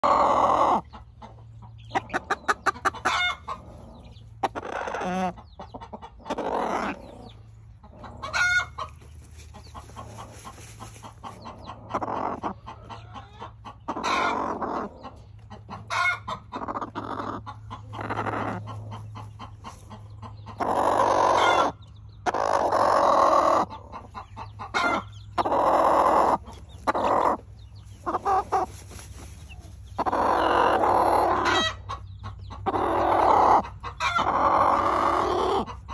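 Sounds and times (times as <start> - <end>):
hen clucking and trilling: 0.0 - 35.9.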